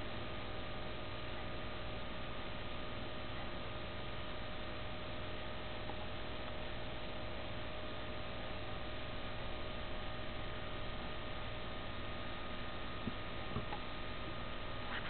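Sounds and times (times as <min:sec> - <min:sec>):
faint electronic whine and hum: 0:00.0 - 0:15.0
microphone hiss: 0:00.0 - 0:15.0.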